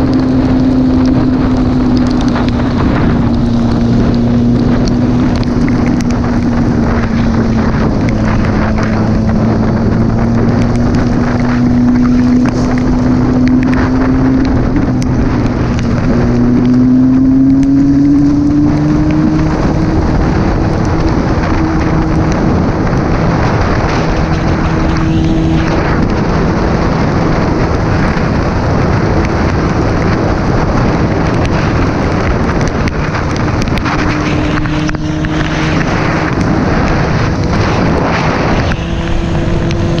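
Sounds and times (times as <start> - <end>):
vehicle engine running: 0.0 - 40.0
wind noise on microphone: 0.0 - 40.0.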